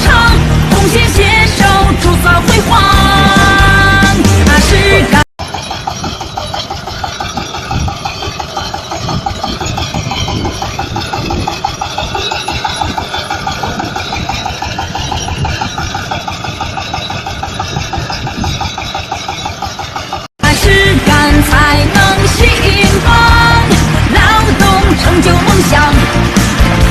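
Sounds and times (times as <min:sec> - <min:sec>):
harvester engine droning: 0:00.0 - 0:26.9
machinery clattering: 0:00.0 - 0:26.9.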